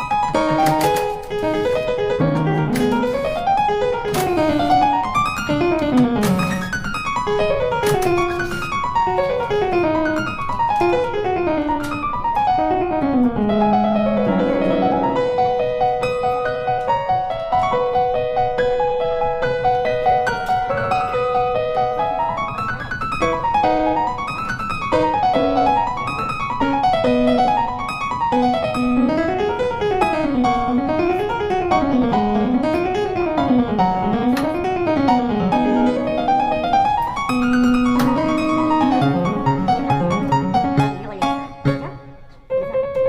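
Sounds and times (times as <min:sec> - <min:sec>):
piano music: 0:00.0 - 0:43.0.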